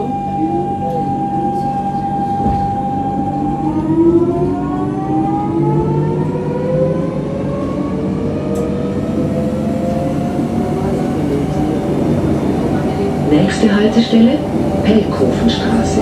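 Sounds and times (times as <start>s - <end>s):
tram motors whining: 0.0s - 16.0s.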